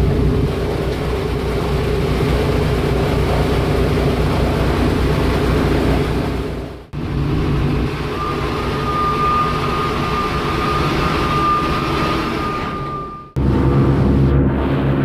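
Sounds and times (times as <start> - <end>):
aircraft engines droning: 0.0 - 15.0
steady high whine: 0.0 - 15.0.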